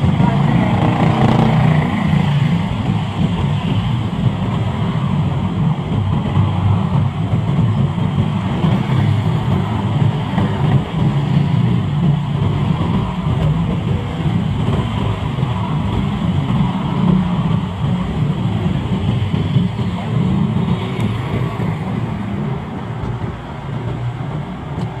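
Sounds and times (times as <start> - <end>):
small engines rumbling: 0.0 - 25.0
tyres hissing on wet road: 0.0 - 25.0.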